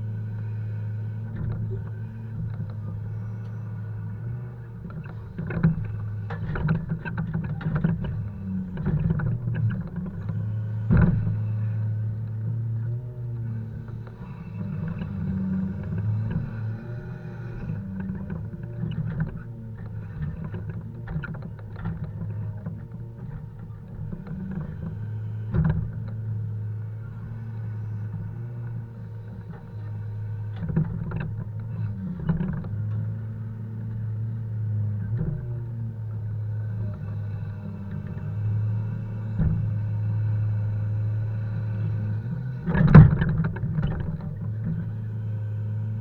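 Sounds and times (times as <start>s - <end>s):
heavy diesel engine running: 0.0s - 46.0s.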